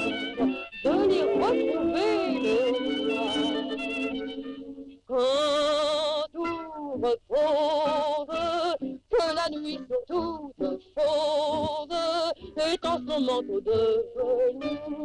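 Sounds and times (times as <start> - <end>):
woman singing with vibrato: 0.0 - 15.0.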